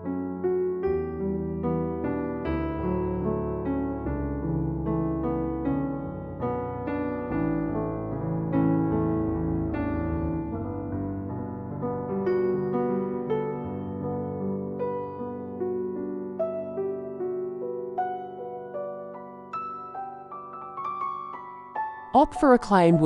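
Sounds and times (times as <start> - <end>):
soft piano notes: 0.0 - 23.0.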